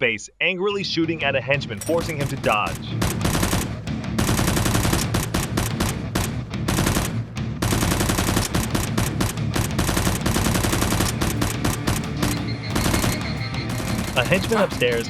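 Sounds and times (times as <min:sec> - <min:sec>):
automatic gunfire: 0:02.0 - 0:15.0.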